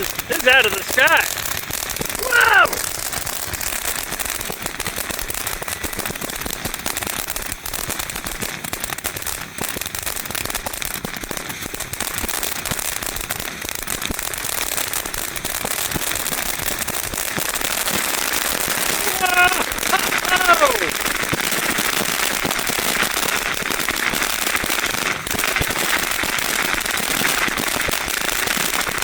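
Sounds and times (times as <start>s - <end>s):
firework fountain crackling and hissing: 0.0s - 29.0s.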